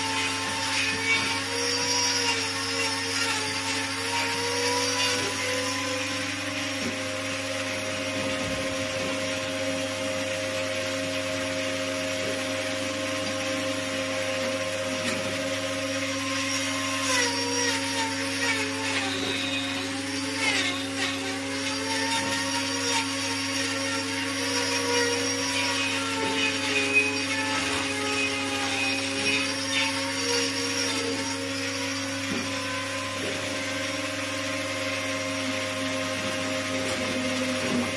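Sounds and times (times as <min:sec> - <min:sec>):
angle grinder whining: 0:00.0 - 0:37.9.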